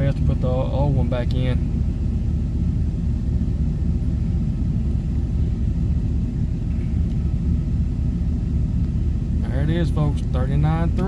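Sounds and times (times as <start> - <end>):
air conditioning compressor running: 0.0 - 11.0
car engine idling: 0.0 - 11.0.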